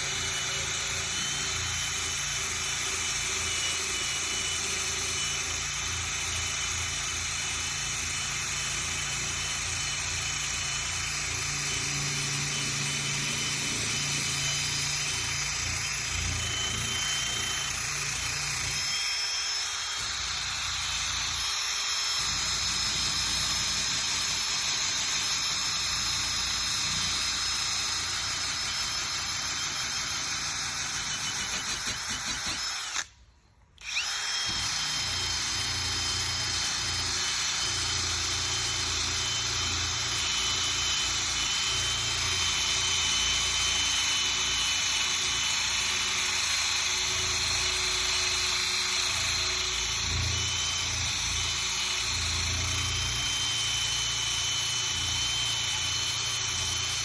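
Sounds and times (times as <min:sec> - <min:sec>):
power sander whining: 0:00.0 - 0:33.1, 0:33.8 - 0:57.0.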